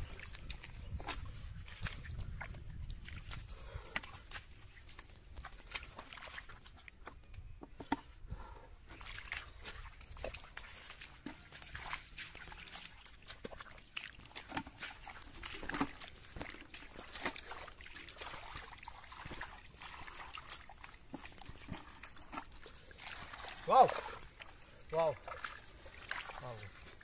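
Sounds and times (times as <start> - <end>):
squelching and splashing in mud: 0.0 - 27.0.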